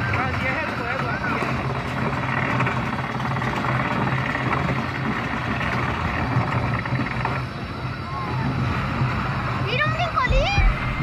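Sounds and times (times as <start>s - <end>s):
ride machinery low drone: 0.0s - 11.0s.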